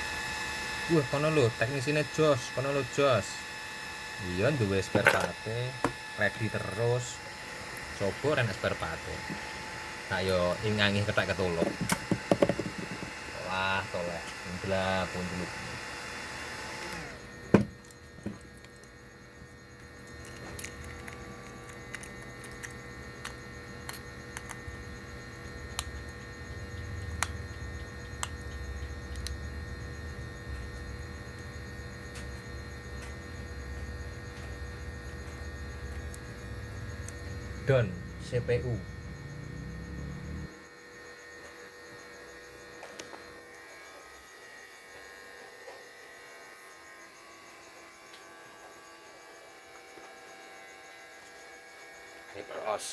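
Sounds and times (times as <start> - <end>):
electrical hum: 0.0 - 52.9.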